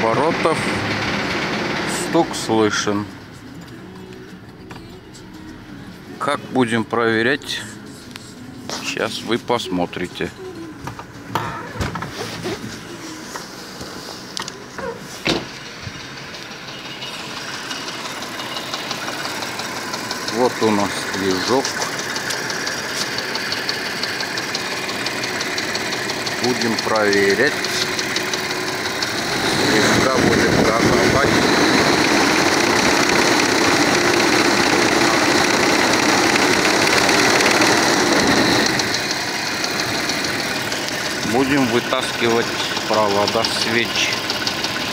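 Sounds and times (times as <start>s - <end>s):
engine ticking: 0.0s - 11.7s, 12.6s - 44.9s
petrol engine running: 0.0s - 44.9s.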